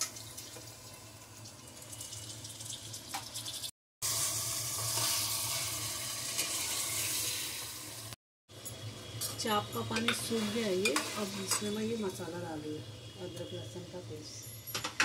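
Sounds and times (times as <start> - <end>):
meat sizzling in hot oil: 0.0 - 14.1.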